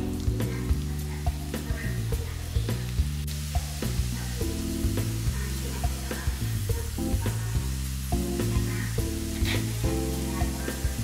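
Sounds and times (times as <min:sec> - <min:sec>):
background music: 0:00.0 - 0:11.0
fries sizzling in hot oil: 0:00.0 - 0:11.0
skimmer stirring fries: 0:00.0 - 0:11.0.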